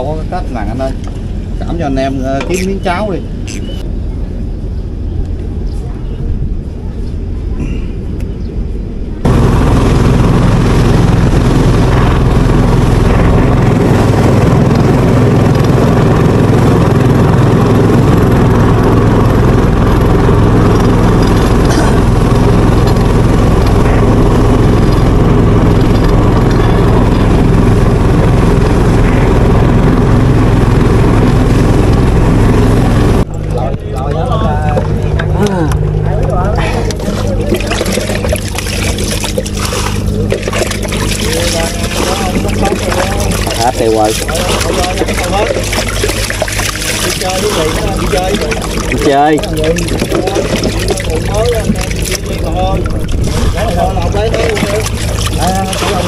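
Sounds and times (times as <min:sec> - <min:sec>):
motorboat engine running: 0:00.0 - 0:56.0
water rushing along hull: 0:09.2 - 0:56.0.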